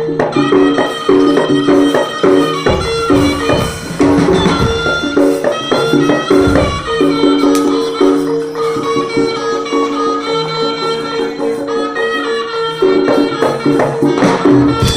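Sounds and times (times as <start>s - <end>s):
drums beating: 0.0s - 9.9s, 12.8s - 14.9s.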